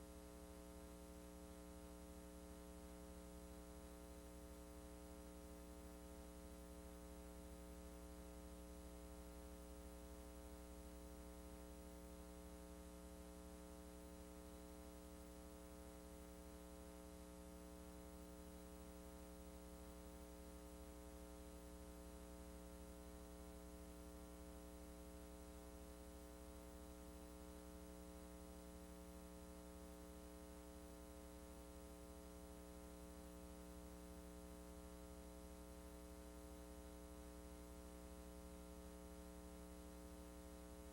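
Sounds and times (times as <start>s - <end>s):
faint mains hum: 0.0s - 40.9s.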